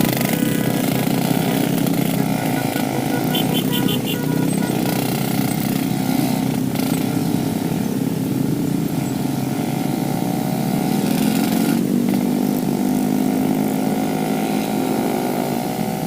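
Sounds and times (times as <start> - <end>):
two-stroke motorcycle engine running: 0.0 - 16.0.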